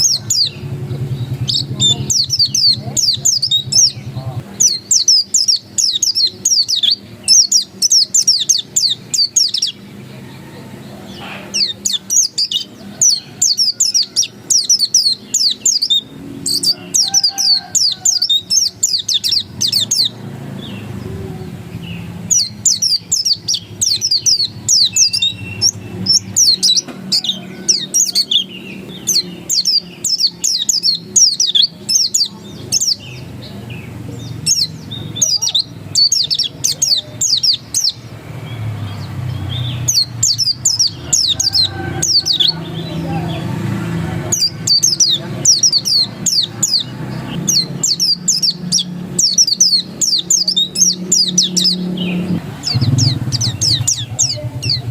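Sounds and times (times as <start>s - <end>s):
bird singing rapid high notes: 0.0s - 10.0s, 11.1s - 54.9s.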